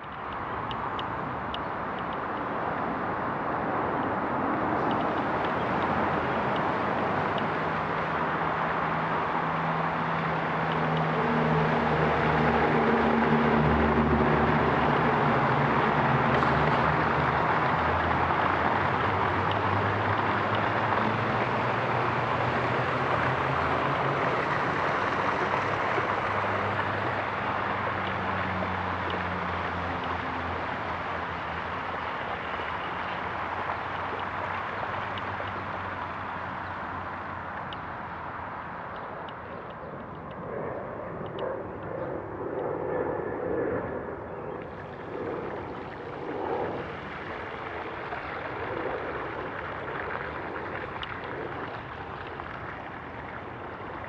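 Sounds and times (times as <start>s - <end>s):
rushing flood water: 0.0s - 39.4s, 44.6s - 54.0s
wind on microphone: 0.0s - 54.0s.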